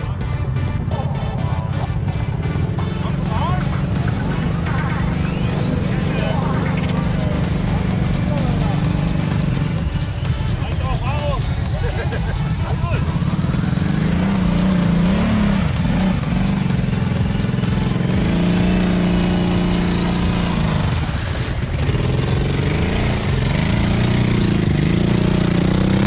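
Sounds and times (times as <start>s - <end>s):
quad bike engine revving: 0.0s - 26.0s
wheels churning mud and water: 1.0s - 26.0s.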